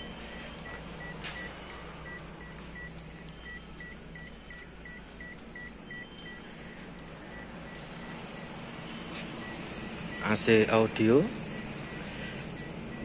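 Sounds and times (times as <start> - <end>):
car warning buzzer beeping: 0.0 - 13.0.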